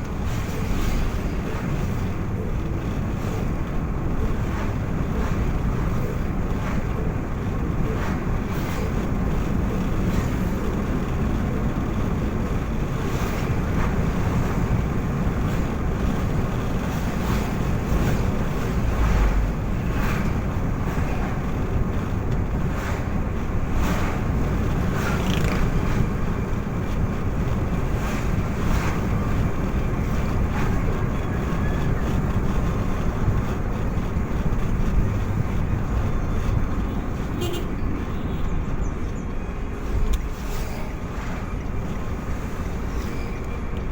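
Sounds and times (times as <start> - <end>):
moving vehicle rumble: 0.0 - 43.9.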